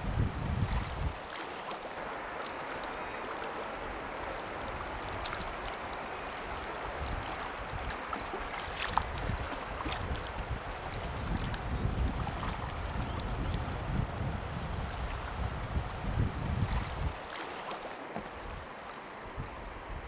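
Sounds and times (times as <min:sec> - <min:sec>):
wind buffeting microphone: 0:00.0 - 0:01.3, 0:02.0 - 0:17.4, 0:18.3 - 0:20.0
river water running: 0:00.0 - 0:20.0.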